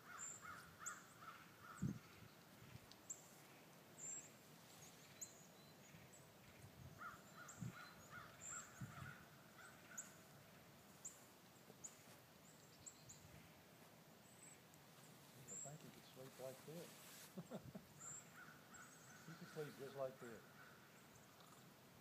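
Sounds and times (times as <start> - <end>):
distant bird calls: 0.0 - 22.0.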